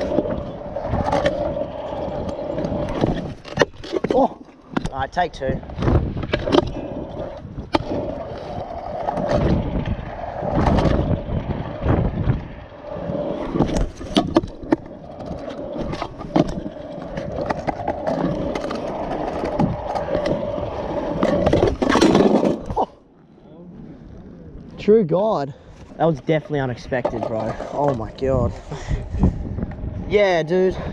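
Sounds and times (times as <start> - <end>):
scooter wheels rolling on concrete: 0.0 - 30.9.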